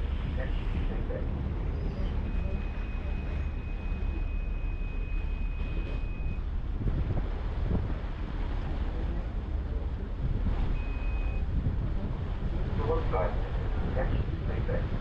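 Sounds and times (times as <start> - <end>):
ferry engine rumbling: 0.0 - 15.0
wind buffeting microphone: 0.0 - 15.0.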